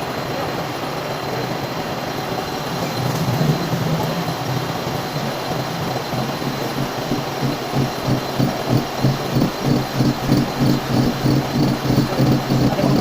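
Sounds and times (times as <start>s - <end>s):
faint high whine: 0.0s - 13.0s
milling machine humming: 0.0s - 13.0s
even mechanical pulsing: 1.7s - 13.0s.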